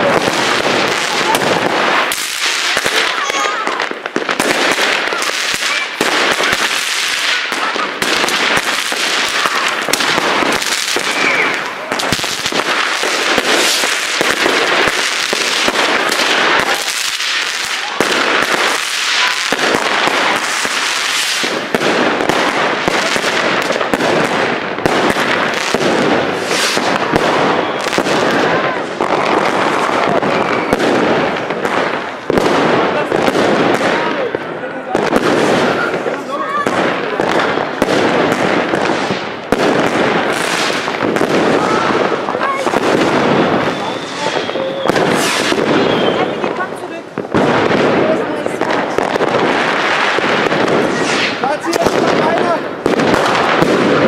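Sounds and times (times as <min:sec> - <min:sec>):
fireworks and firecrackers banging: 0:00.0 - 0:54.0.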